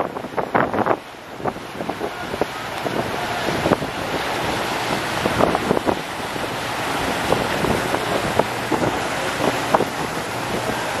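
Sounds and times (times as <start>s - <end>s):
boat wake churning: 0.0s - 11.0s
wind buffeting microphone: 0.0s - 11.0s
sharp splashes: 1.0s - 11.0s.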